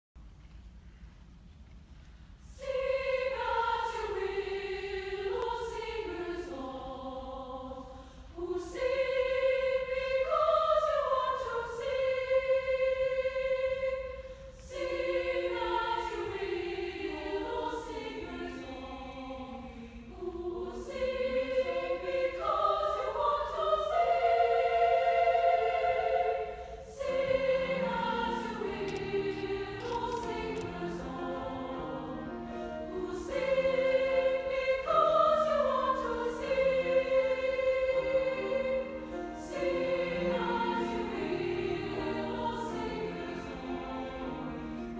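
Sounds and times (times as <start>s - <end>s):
women's choir singing: 2.4s - 44.9s.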